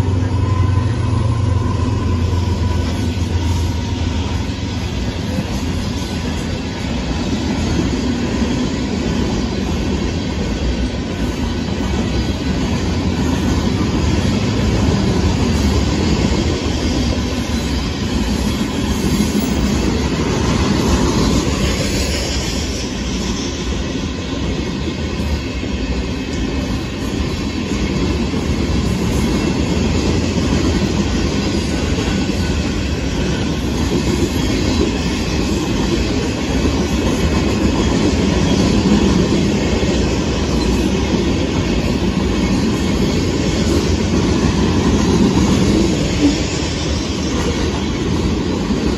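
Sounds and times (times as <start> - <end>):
train wheels rumbling on rails: 0.0 - 48.9
clickety-clack over rail joints: 2.3 - 48.9.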